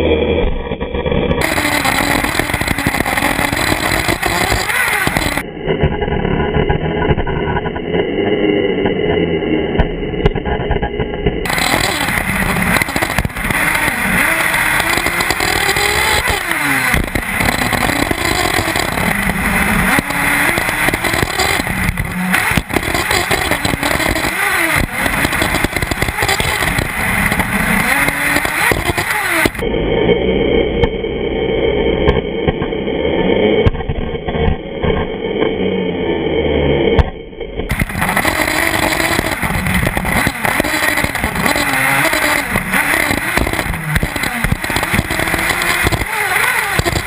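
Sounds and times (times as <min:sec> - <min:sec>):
small nitro engine revving: 0:00.0 - 0:09.8, 0:11.4 - 0:47.0
wind: 0:00.0 - 0:47.0.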